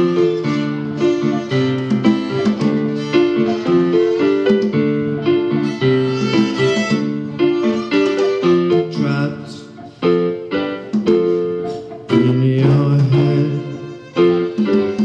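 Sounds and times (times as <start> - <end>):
keyboard playing rock chords: 0.0 - 15.0.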